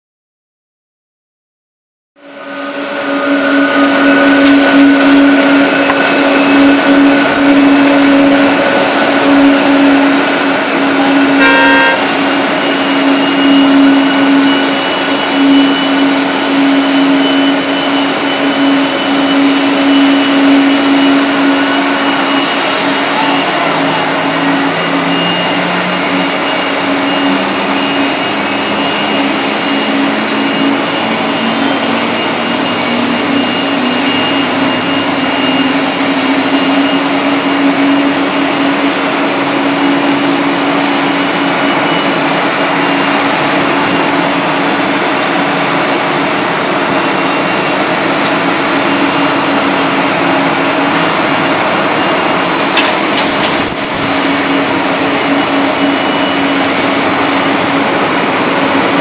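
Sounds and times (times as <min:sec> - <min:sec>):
low hum rising in pitch: 0:02.2 - 0:52.6
jet engines whining: 0:02.2 - 0:59.0.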